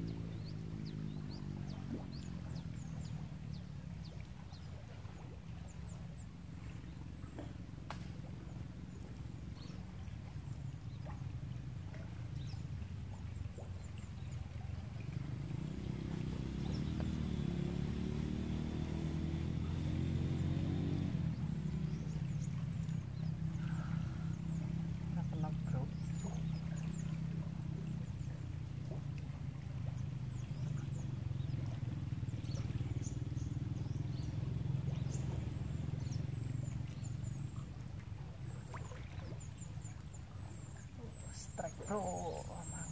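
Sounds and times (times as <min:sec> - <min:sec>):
small engine droning: 0:00.0 - 0:42.9.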